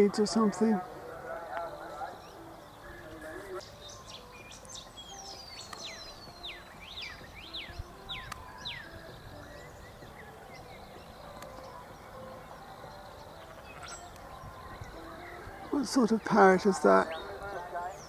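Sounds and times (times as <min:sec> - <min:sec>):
faint distant bird chirps: 0:00.0 - 0:18.0.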